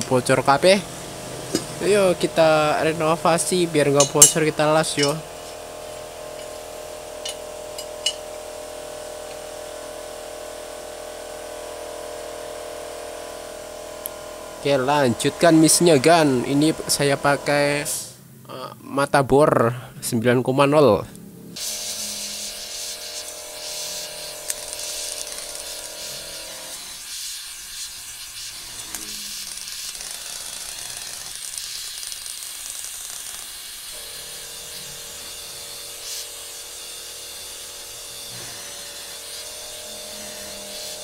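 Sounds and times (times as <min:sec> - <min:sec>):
welding torch flame hissing: 0:00.0 - 0:18.2, 0:21.6 - 0:41.0.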